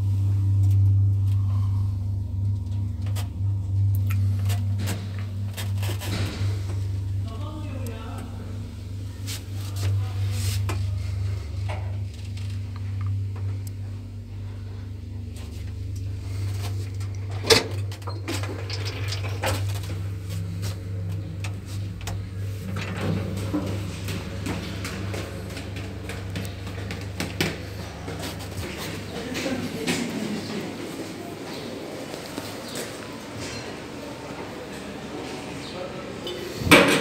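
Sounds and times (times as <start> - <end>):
elevator car low hum: 0.0 - 37.0
higher hum: 0.0 - 37.0.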